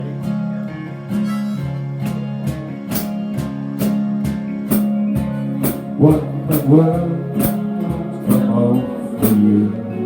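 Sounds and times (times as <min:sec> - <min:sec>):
held instrumental notes: 0:00.0 - 0:10.0
strummed chords: 0:00.0 - 0:10.0.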